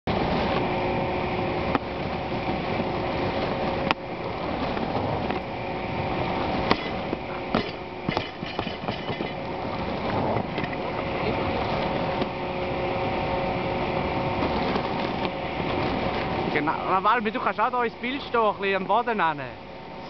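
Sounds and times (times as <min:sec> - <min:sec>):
steady hum with tones: 0:00.1 - 0:20.0.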